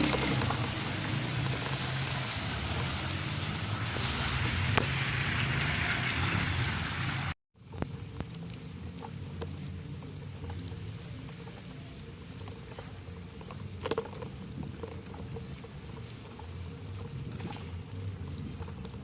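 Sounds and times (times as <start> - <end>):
rain: 0.0 - 19.0
road traffic rumbling: 0.0 - 19.0.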